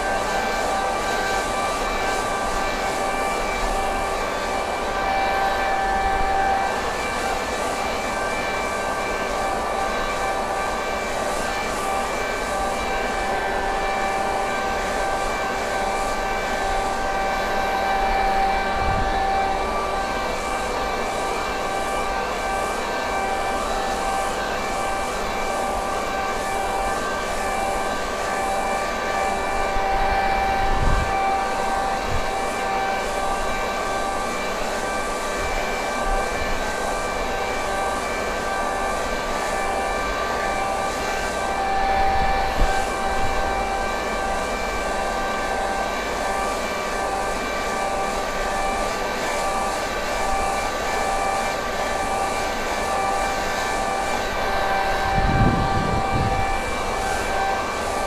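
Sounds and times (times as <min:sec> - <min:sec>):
leaf blower whine: 0:00.0 - 0:58.0.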